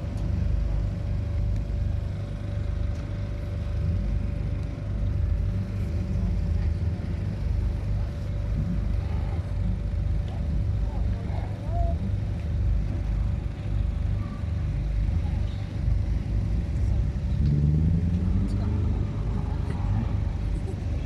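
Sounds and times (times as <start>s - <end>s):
vehicle engines rumbling: 0.0s - 21.0s.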